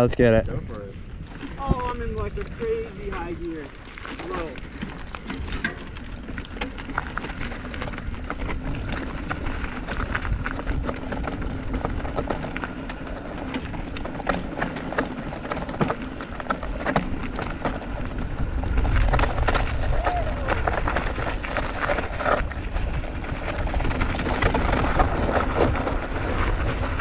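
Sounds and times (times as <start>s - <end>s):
wind rumble on microphone: 0.0s - 27.0s
bike clicks and rattles: 0.6s - 27.0s
bike tyres crunching on stone: 1.0s - 27.0s.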